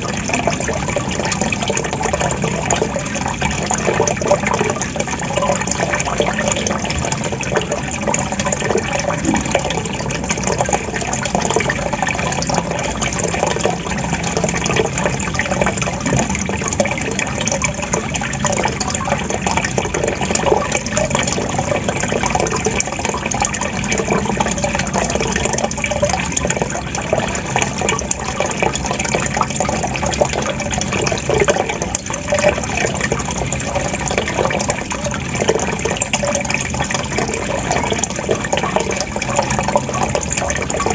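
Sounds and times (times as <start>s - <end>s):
water gurgling and trickling: 0.0s - 40.9s.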